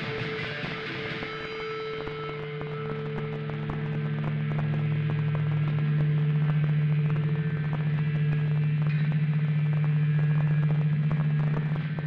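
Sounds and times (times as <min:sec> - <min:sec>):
crackling clicks: 0:00.0 - 0:12.0
low electrical hum: 0:00.0 - 0:12.0.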